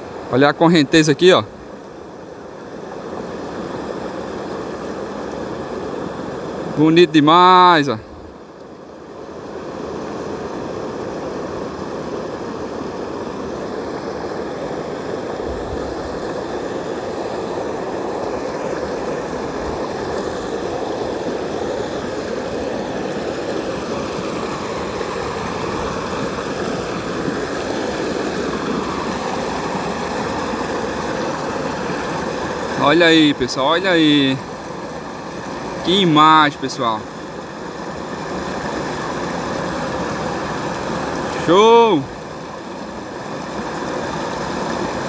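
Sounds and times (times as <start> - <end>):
water rushing over concrete: 0.0 - 8.2, 8.9 - 45.0.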